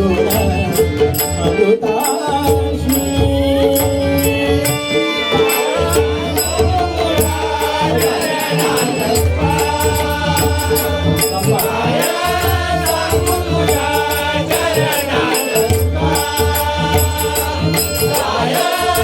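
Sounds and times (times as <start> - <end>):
drum beat: 0.0 - 19.0
jingling hand cymbals: 0.0 - 19.0
voices singing in chorus: 0.0 - 19.0.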